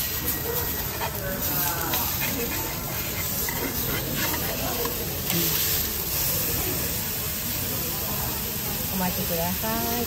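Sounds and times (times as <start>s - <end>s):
meat sizzling on hot iron plate: 0.0s - 10.0s.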